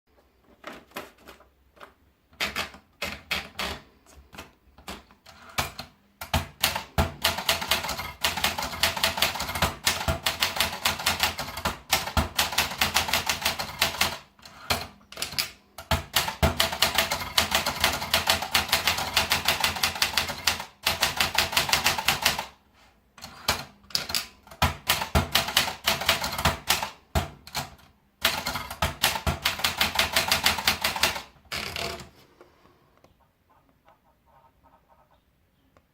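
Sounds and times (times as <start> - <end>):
typewriter typing: 0.6 - 22.6, 23.2 - 32.1.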